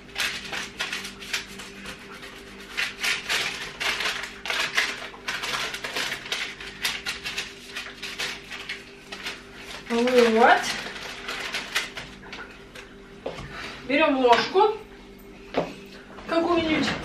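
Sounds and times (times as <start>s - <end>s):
parchment paper rustling: 0.0s - 13.7s.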